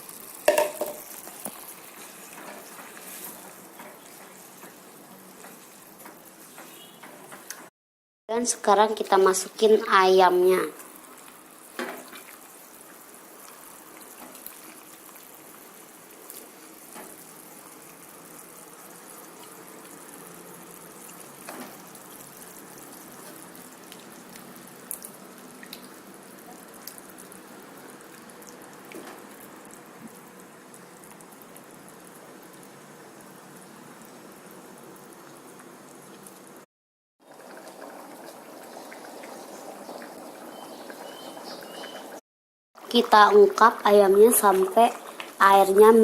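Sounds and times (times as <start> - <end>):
pot simmering with faint bubbling: 0.0 - 7.7, 8.8 - 42.2, 42.8 - 46.0.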